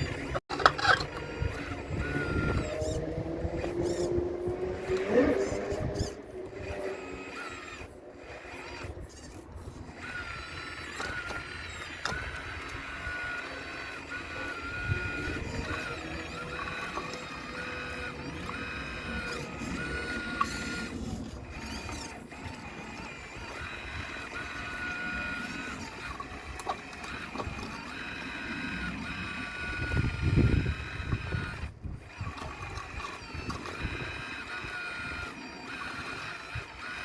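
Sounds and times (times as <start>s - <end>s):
electric motors whining: 0.0s - 37.0s.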